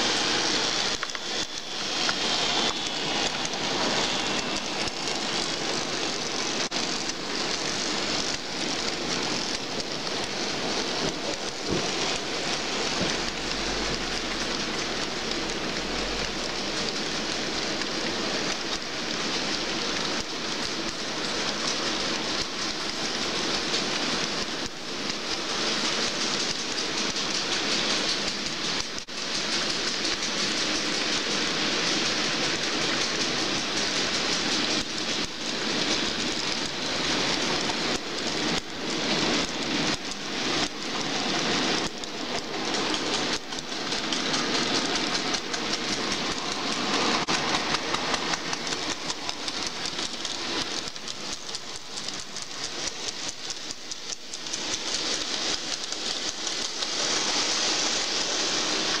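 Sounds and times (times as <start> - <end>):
model train wheels rattling on rails: 0.0 - 59.0.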